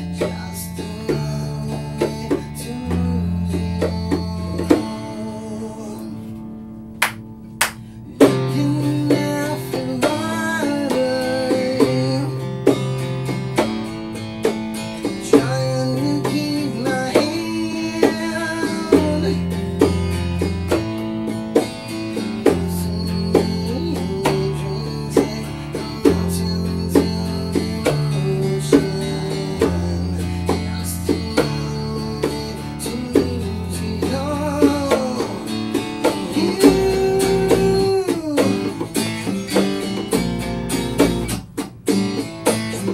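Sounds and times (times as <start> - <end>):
electric bass line: 0.0 - 42.9
strummed acoustic guitar: 0.0 - 42.9
bongo hits: 7.0 - 42.9.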